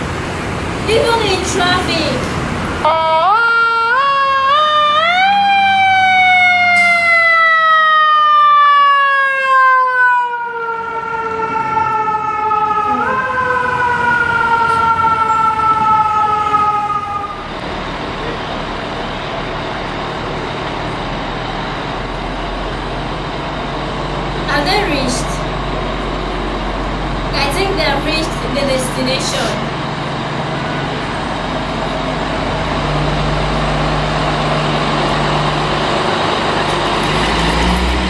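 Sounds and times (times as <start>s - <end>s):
engine and traffic noise: 0.0s - 38.0s
fire truck siren wailing: 0.0s - 38.0s.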